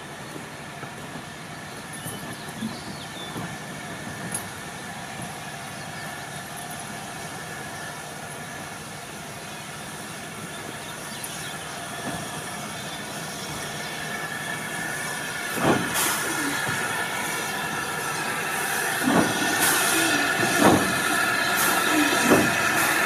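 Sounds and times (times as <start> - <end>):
steam locomotive hissing: 2.2 - 23.0.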